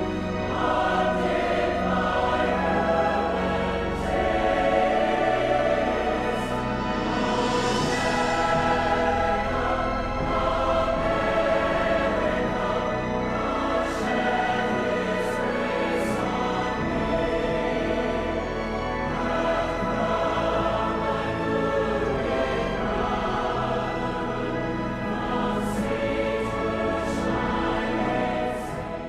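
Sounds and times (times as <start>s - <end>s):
choir with orchestra: 0.0s - 29.0s.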